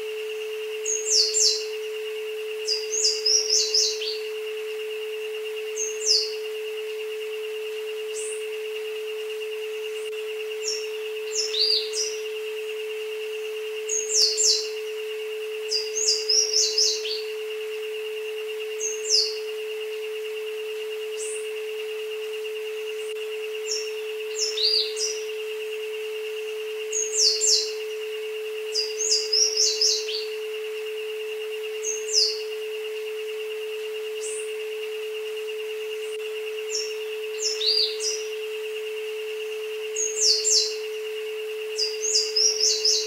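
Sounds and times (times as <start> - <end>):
birds chirping: 0.0 - 43.0
rapidly pulsing higher tone: 0.0 - 43.0
steady electronic tone: 0.0 - 43.0.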